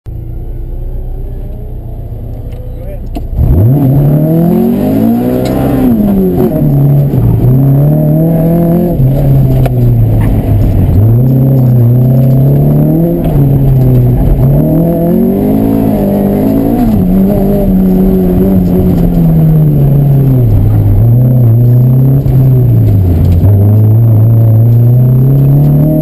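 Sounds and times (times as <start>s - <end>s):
car engine revving: 0.1s - 26.0s.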